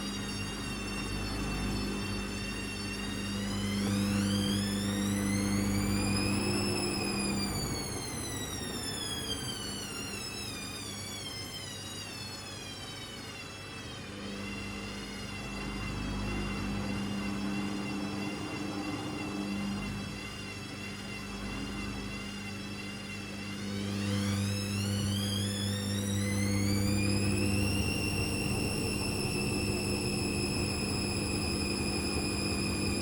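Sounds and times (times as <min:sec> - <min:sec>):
steady hum: 0:00.0 - 0:11.0, 0:13.7 - 0:33.0
washing machine drum motor whining: 0:00.0 - 0:33.0.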